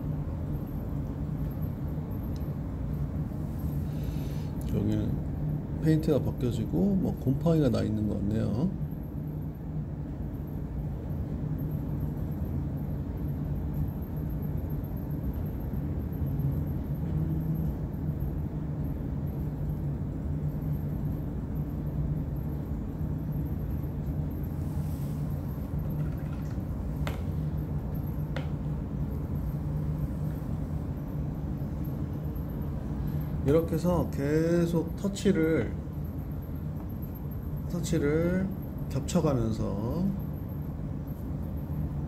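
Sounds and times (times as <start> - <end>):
low background hum and rumble: 0.0 - 42.0.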